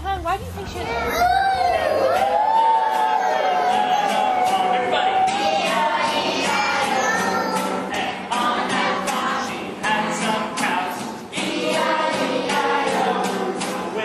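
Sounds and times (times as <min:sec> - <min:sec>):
acoustic guitar strumming: 0:00.0 - 0:14.0
children singing: 0:00.9 - 0:14.0.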